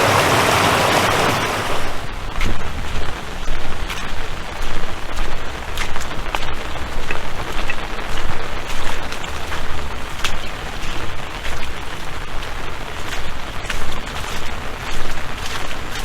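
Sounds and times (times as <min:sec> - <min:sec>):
rain hissing: 0:00.0 - 0:16.0
raindrops striking close by: 0:00.0 - 0:16.0.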